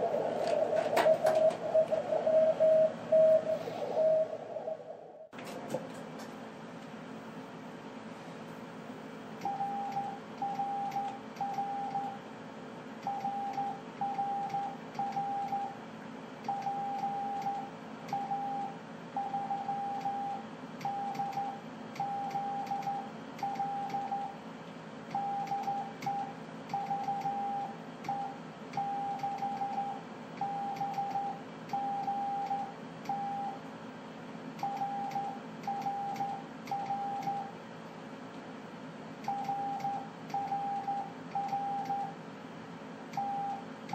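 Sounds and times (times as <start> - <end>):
receiver hiss and hum: 0.0 - 43.9.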